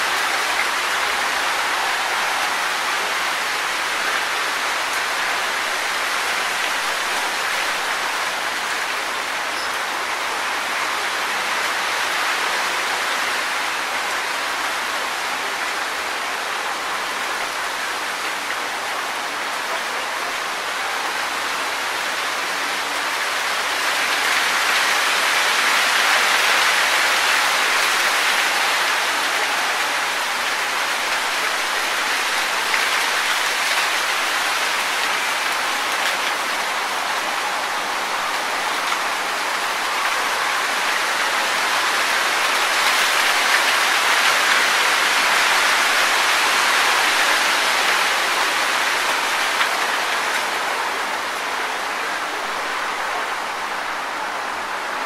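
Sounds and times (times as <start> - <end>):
wind rustling tree leaves: 0.0 - 55.0.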